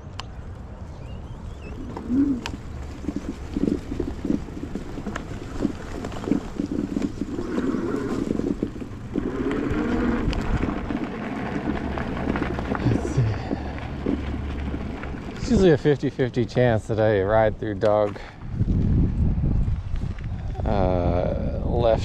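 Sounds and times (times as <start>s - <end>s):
tyre and road rumble: 0.0s - 22.0s
wind buffeting microphone: 0.0s - 22.0s.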